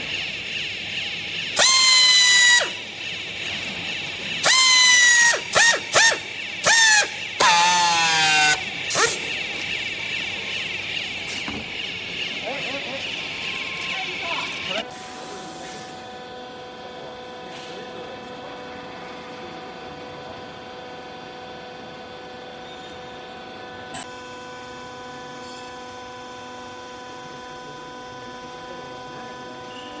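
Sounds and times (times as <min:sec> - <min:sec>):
motor and pump humming: 0:00.0 - 0:30.0.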